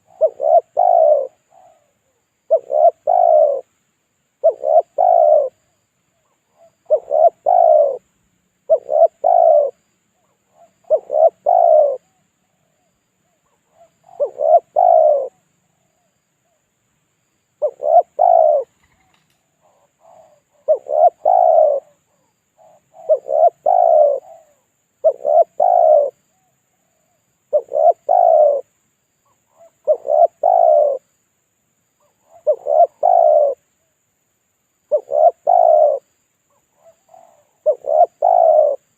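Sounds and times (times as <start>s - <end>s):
dove cooing: 0.0s - 3.7s, 4.4s - 16.6s, 17.6s - 31.1s, 32.0s - 33.7s, 34.9s - 38.9s.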